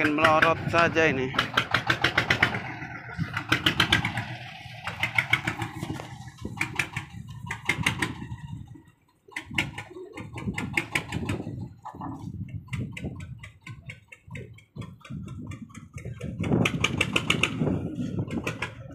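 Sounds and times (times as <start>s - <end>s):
boat engine knocking: 0.0s - 18.9s.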